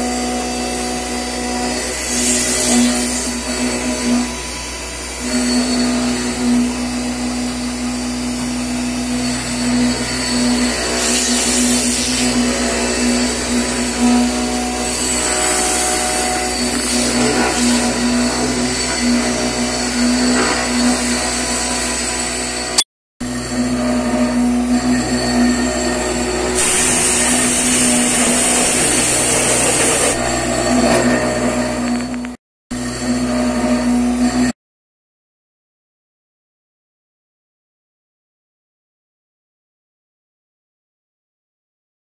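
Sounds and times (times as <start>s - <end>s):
milling machine spindle whine: 0.0s - 34.5s.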